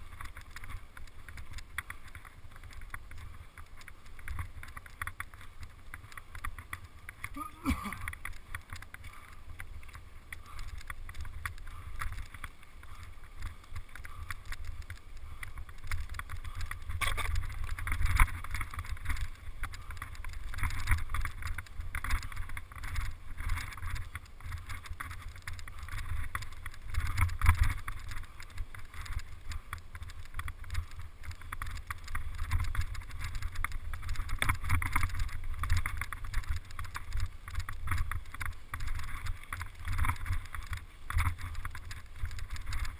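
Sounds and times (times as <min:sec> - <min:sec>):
bike rattling over bumps: 0:00.0 - 0:42.9
bike rumble: 0:00.0 - 0:42.9.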